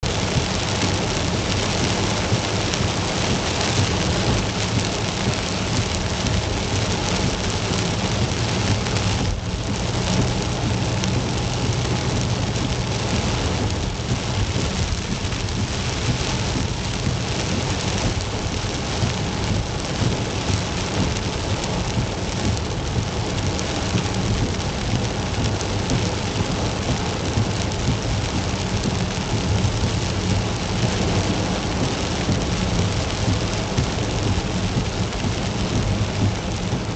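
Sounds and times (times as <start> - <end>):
heavy rain drumming on a car: 0.0 - 36.9.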